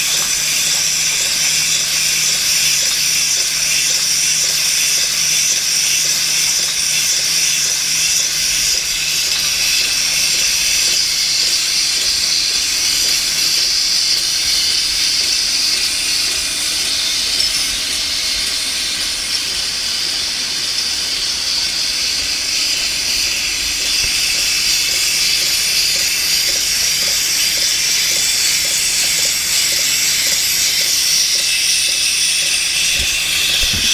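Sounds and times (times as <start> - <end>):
filling machine hissing: 0.0 - 33.9.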